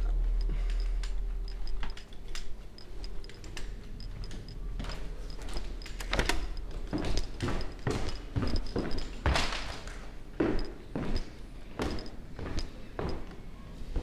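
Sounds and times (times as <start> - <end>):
footsteps: 0.0 - 14.0.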